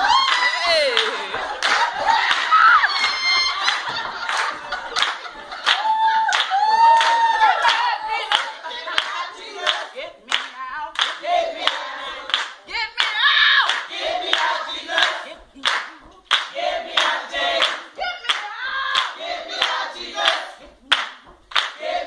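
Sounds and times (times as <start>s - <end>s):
group singing gospel: 0.0s - 22.0s
hand clapping: 0.2s - 21.9s.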